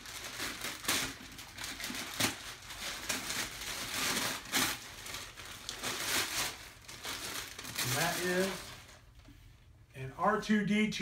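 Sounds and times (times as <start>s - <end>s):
wrapping paper tearing and crumpling: 0.0s - 9.2s.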